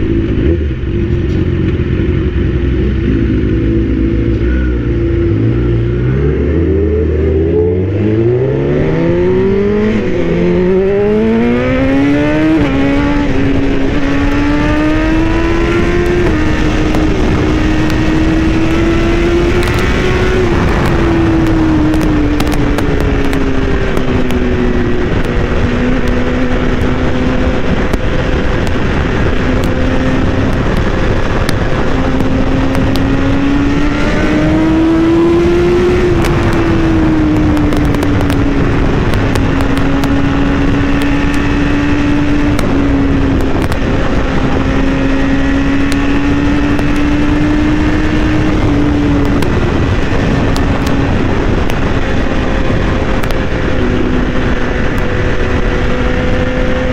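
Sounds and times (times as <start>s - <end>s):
motorcycle engine droning: 0.0s - 56.9s
wind rush: 0.0s - 56.9s.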